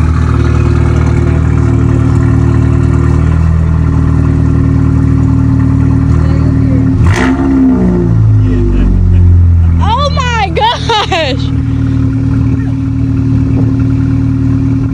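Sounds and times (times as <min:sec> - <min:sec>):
car engine idling: 0:00.0 - 0:14.9
engine revving: 0:00.0 - 0:14.9.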